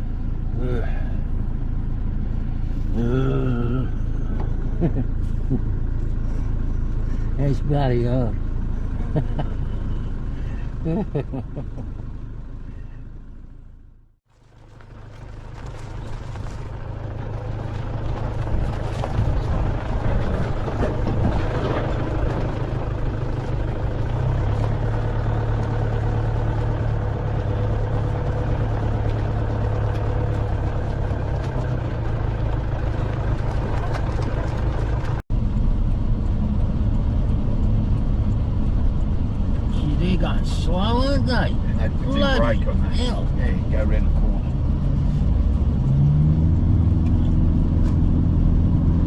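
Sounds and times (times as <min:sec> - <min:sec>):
car engine and road rumble: 0:00.0 - 0:49.0.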